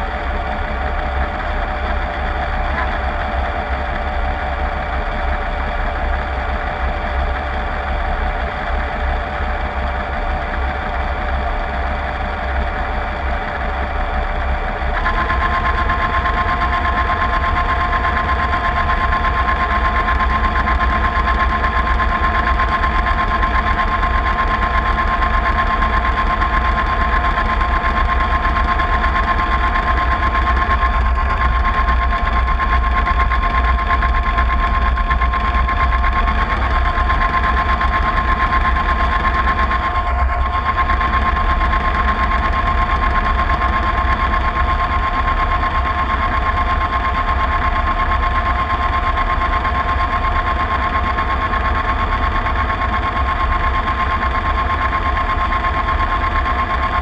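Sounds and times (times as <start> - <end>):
model boat mechanical hum: 0.0 - 57.0.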